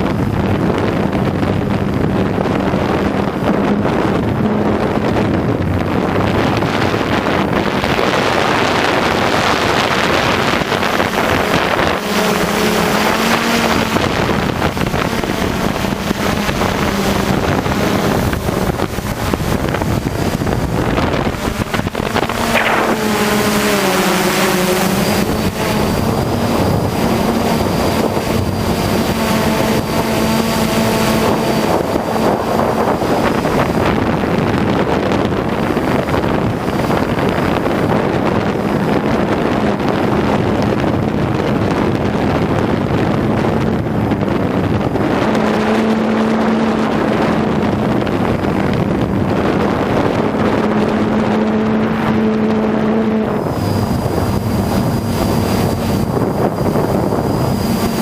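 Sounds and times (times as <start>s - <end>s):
drone motors and propellers droning: 0.0s - 58.0s
wind buffeting microphone: 0.0s - 58.0s.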